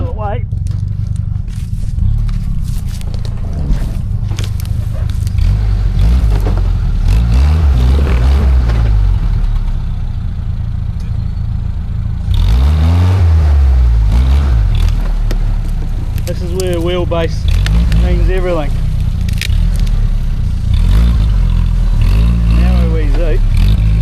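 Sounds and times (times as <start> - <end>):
off-road vehicle engine revving: 0.0 - 24.0
vehicle clattering and scraping: 0.0 - 24.0.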